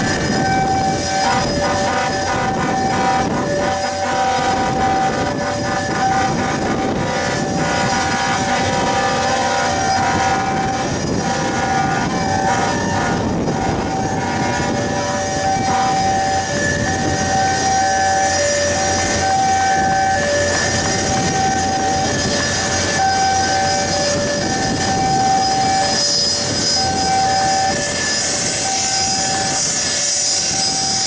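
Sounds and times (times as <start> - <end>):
jet engines whining: 0.0 - 31.0.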